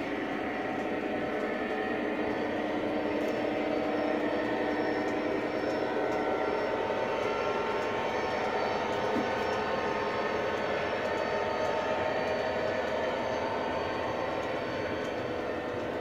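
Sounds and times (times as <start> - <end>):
model train motor hum: 0.0 - 16.0.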